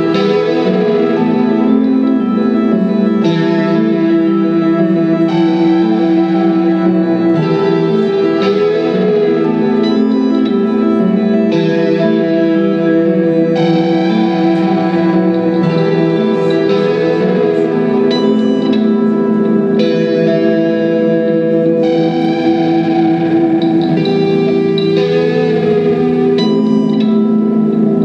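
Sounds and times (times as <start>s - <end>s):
electric guitar ambient chords: 0.0s - 28.0s.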